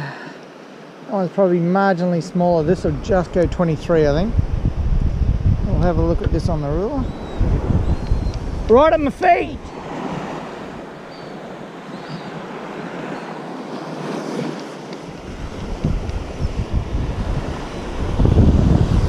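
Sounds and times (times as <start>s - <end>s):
surf washing onto beach: 0.0s - 19.0s
wind buffeting microphone: 2.4s - 13.2s, 13.9s - 19.0s.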